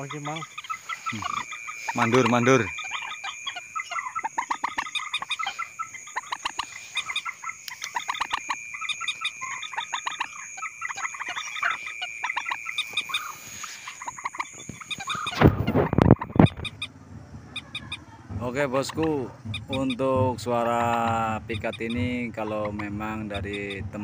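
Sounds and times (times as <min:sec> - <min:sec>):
moorhen clucking calls: 0:00.0 - 0:24.0
steady high whine: 0:00.0 - 0:24.0.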